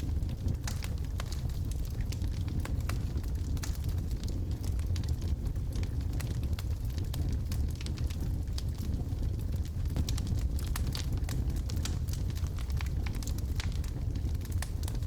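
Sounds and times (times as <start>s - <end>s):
fire flames rumbling: 0.0s - 15.0s
wood crackling and popping: 0.0s - 15.0s.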